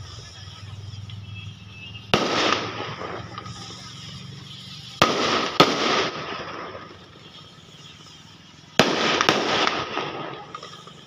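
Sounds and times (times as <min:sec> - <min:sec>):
firework rocket cracks: 0:00.0 - 0:11.0
rocket hissing rush: 0:00.0 - 0:11.0.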